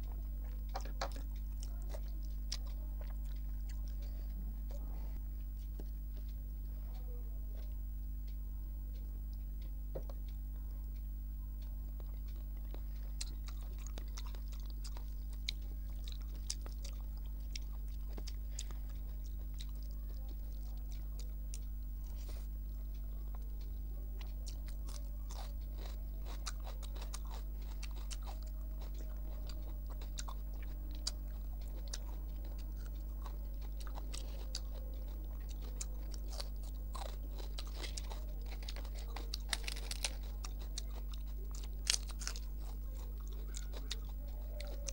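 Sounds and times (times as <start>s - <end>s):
person chewing crunchy food: 0.0s - 10.8s, 11.6s - 44.9s
low electrical hum: 0.0s - 44.9s.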